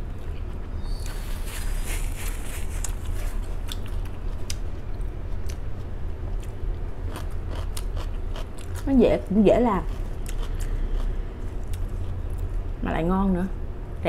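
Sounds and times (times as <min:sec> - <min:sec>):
person chewing crunchy lettuce: 0:00.1 - 0:08.9, 0:09.8 - 0:12.6.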